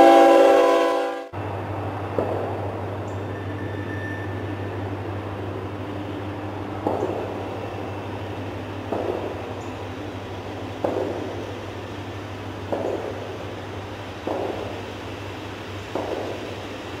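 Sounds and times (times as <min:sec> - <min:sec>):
distant train low drone: 0:00.0 - 0:17.0.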